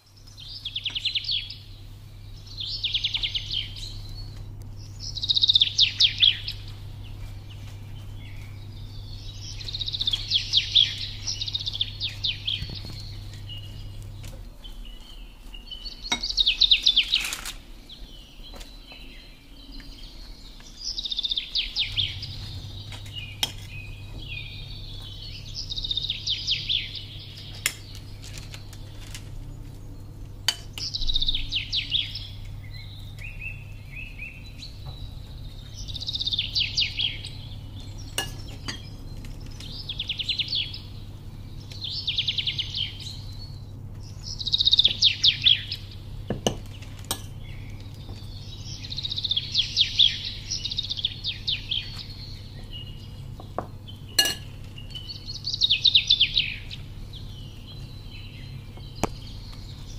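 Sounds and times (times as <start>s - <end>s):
songbird trilling: 0.0s - 59.9s
steady low hum: 0.0s - 59.9s.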